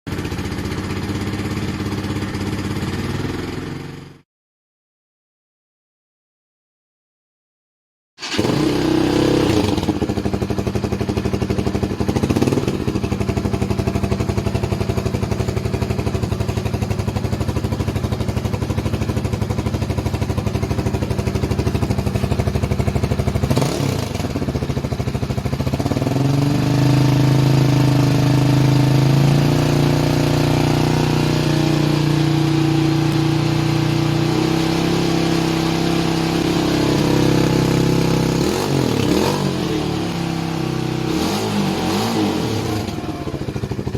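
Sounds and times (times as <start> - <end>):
motorcycle engine revving: 0.1 - 4.2, 8.2 - 43.9.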